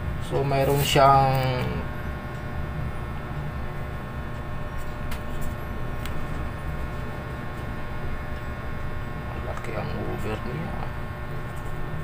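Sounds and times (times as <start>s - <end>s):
faint whine: 0.0s - 12.0s
steady low hum: 0.0s - 12.0s.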